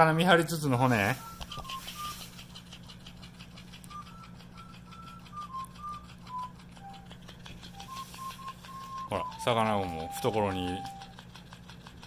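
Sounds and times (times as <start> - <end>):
steady low hum: 0.0 - 12.0
dog gnawing bone clicking: 1.2 - 12.0.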